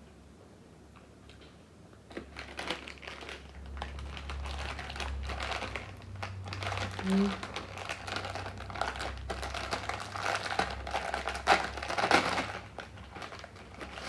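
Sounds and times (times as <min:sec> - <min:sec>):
wrapper crinkling: 0:02.1 - 0:14.0.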